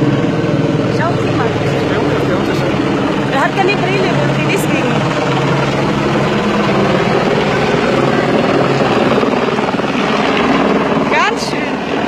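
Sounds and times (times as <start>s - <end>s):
helicopter flying overhead: 0.0s - 12.0s.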